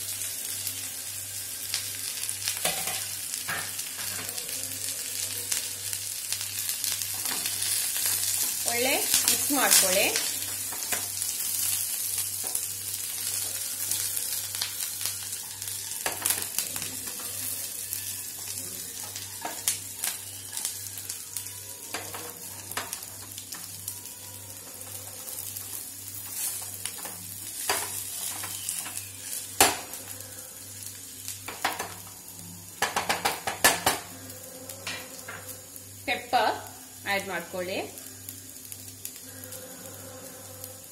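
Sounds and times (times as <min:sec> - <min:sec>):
chicken sizzling in hot oil: 0:00.0 - 0:40.9.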